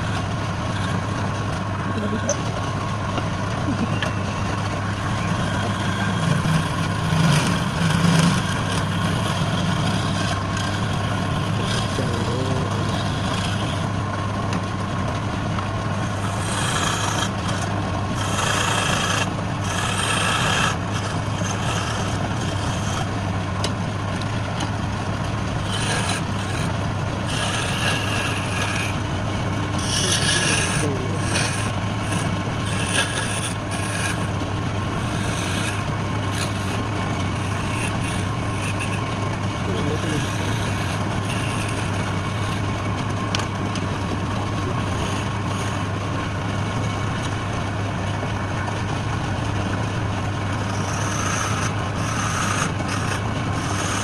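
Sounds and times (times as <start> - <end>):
tool scraping spinning wood: 0.0 - 54.0
wood lathe motor hum: 0.0 - 54.0.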